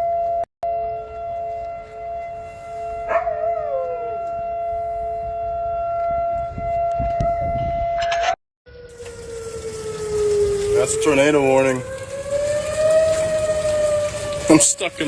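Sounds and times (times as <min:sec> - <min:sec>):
siren tone gliding down: 0:00.0 - 0:15.0
warning siren tone: 0:00.0 - 0:15.0.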